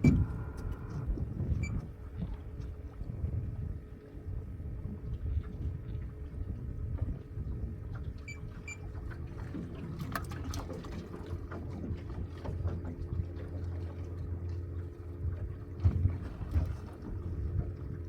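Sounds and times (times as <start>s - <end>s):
boat motor rumbling: 0.0s - 18.0s
water sloshing: 0.0s - 18.0s.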